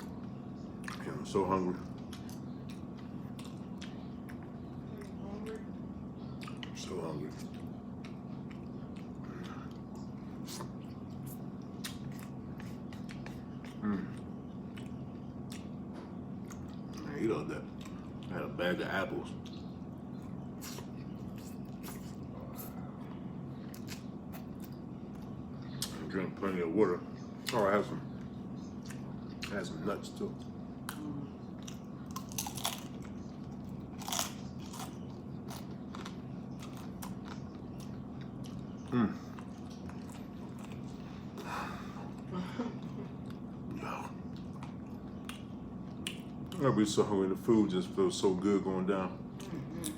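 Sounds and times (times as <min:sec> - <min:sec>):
person chewing food: 0:00.0 - 0:01.1, 0:01.8 - 0:17.1, 0:17.7 - 0:18.5, 0:19.3 - 0:26.1, 0:27.4 - 0:29.6, 0:30.3 - 0:46.7
steady low hum: 0:00.0 - 0:49.9.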